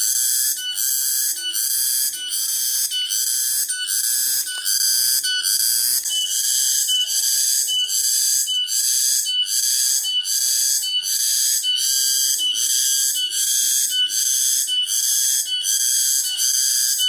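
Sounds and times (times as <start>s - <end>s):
cicada chorus pulsing: 0.0s - 17.0s.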